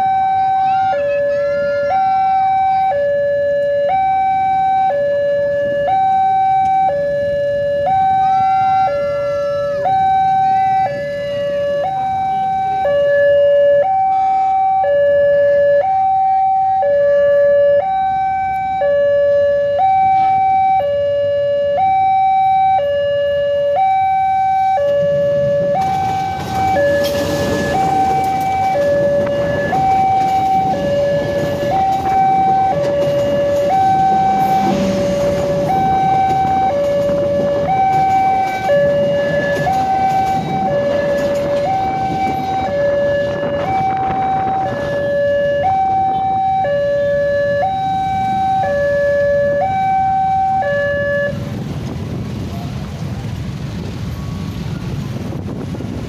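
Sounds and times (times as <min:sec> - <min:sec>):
level crossing alarm: 0:00.0 - 0:51.6
passing train rumble: 0:00.0 - 0:56.0.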